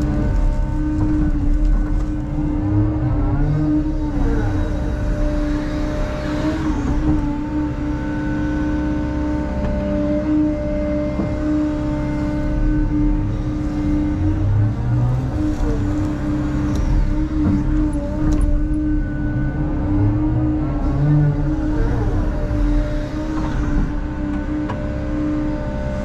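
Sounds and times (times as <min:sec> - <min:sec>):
excavator engine and hydraulics: 0:00.0 - 0:26.0.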